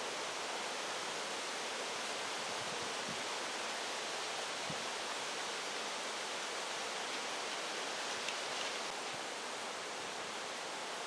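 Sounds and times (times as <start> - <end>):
strong wind through trees: 0.0 - 11.0.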